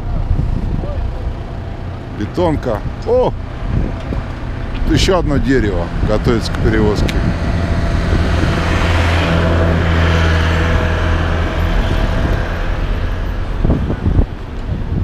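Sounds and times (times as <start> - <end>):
heavy truck engine droning: 0.0 - 15.0.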